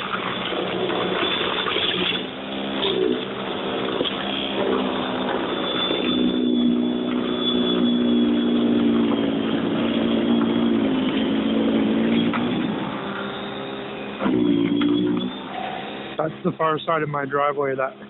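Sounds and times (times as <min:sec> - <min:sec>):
snowblower motor hum: 0:00.0 - 0:18.0.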